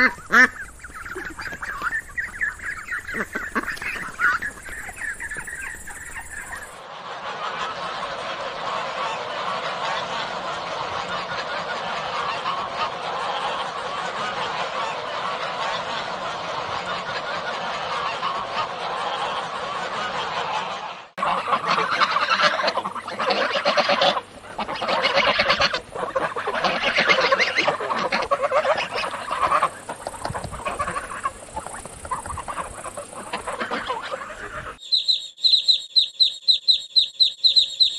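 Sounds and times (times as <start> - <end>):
geese honking: 0.0 - 37.9.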